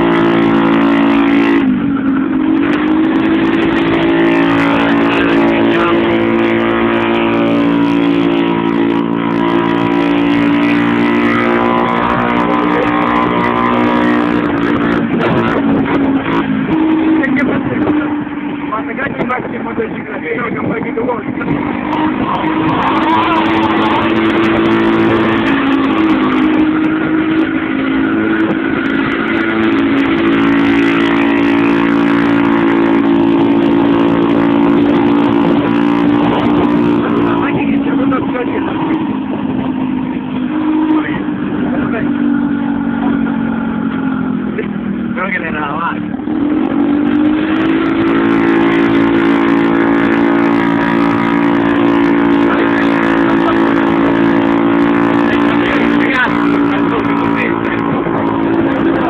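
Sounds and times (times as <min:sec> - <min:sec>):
scooter engine running loudly: 0:00.0 - 0:59.0.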